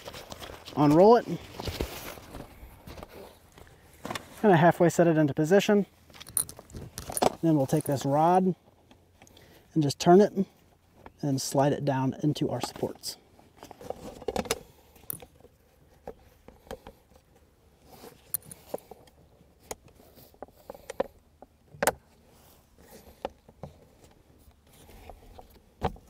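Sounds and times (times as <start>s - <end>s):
camping table clicks and rustles: 0.0s - 4.4s, 6.0s - 9.6s, 12.5s - 26.0s.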